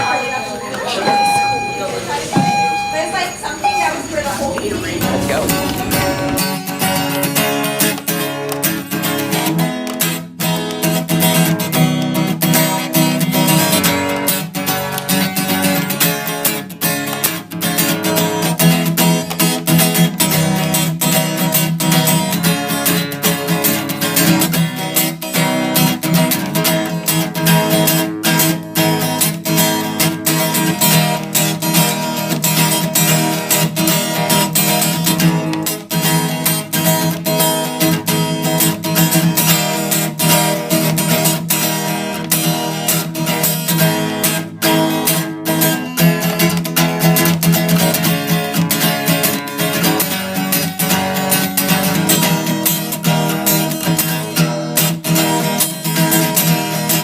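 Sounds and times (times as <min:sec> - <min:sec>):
strummed acoustic guitar: 0:00.0 - 0:57.0.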